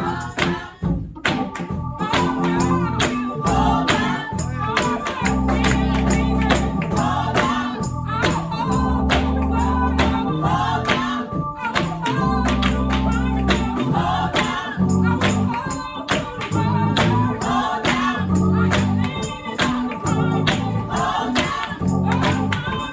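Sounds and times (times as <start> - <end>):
choir singing gospel: 0.0 - 22.9
tambourine and percussion beat: 0.0 - 22.9.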